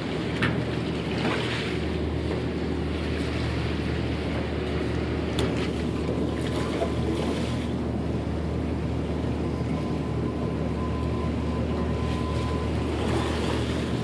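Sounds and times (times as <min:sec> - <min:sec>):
boat engine droning: 0:00.0 - 0:14.0
sea water rushing: 0:00.0 - 0:14.0
wind: 0:00.0 - 0:14.0.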